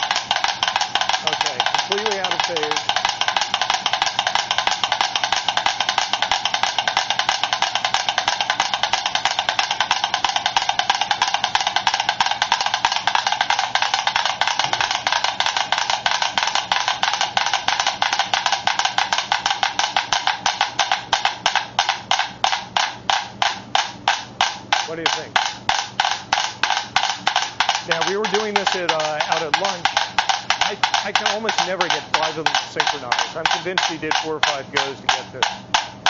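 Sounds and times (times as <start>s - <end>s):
mechanical metronomes ticking: 0.0s - 36.0s.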